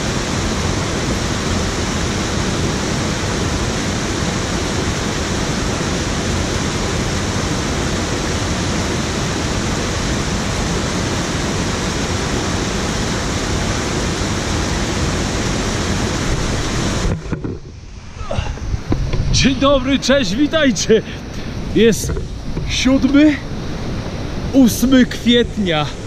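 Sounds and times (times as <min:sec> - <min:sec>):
water rushing over weir: 0:00.0 - 0:26.0.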